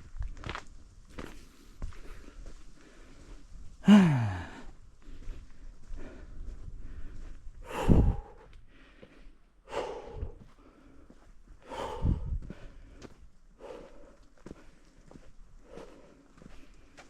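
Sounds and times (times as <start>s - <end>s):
heavy exhalations: 1.4s - 17.0s
person breathing hard: 1.4s - 17.0s.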